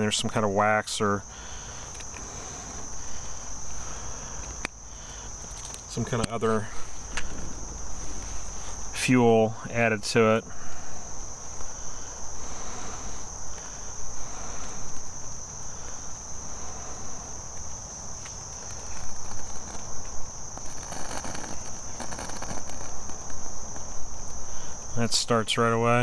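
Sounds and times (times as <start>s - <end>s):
insects chirring: 0.0s - 26.0s
faint crackling and rustling: 1.7s - 25.0s.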